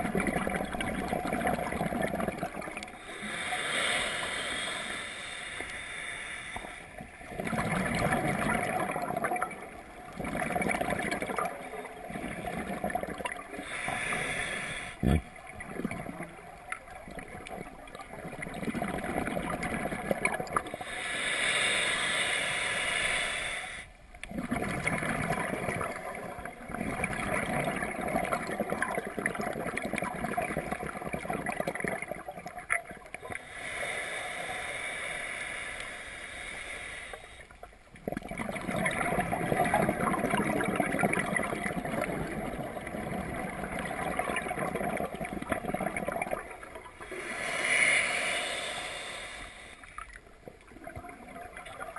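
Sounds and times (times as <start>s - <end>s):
scuba regulator bubbling exhaust: 0.0s - 51.9s.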